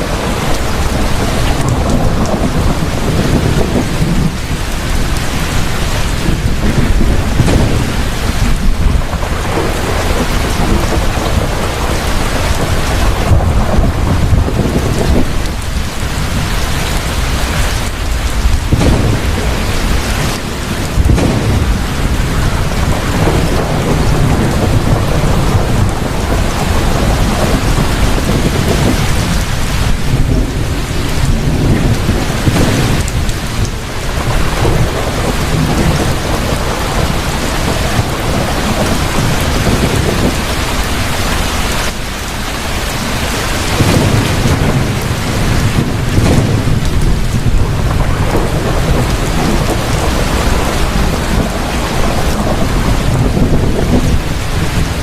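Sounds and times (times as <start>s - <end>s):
deep rolling thunder: 0.0s - 55.0s
heavy rain: 0.0s - 55.0s.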